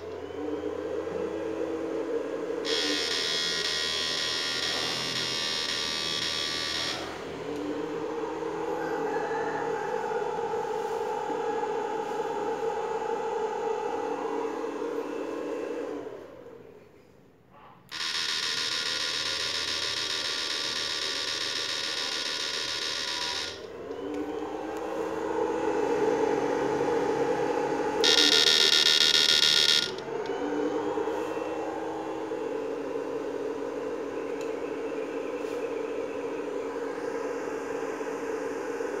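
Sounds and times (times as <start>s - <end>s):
inverter electronic buzz: 0.0s - 16.3s, 17.9s - 39.0s
high-pitched inverter whine: 0.0s - 17.2s, 17.9s - 39.0s.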